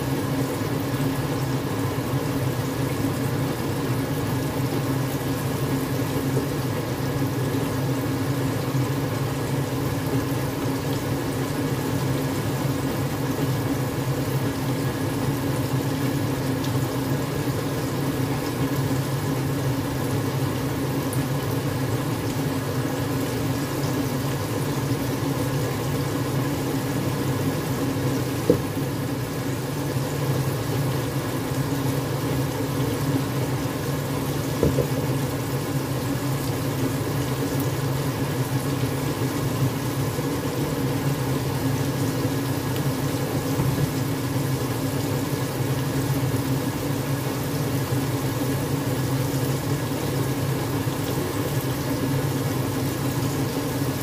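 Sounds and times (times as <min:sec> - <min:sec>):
steady machine hum: 0:00.0 - 0:51.8
chicken sizzling in oil: 0:00.0 - 0:54.0.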